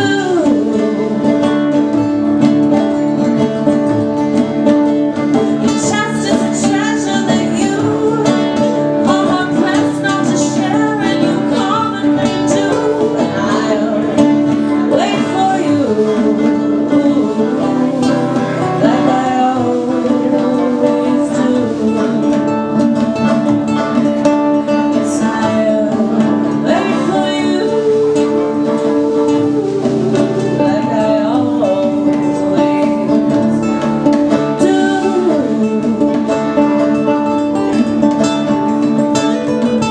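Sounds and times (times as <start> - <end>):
banjo picking: 0.0 - 39.9
strummed acoustic guitar: 0.0 - 39.9
woman singing: 0.0 - 39.9.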